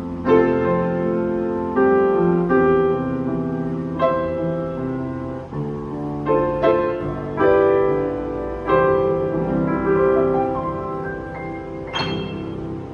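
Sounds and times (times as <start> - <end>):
upright piano chords and melody: 0.0 - 12.9.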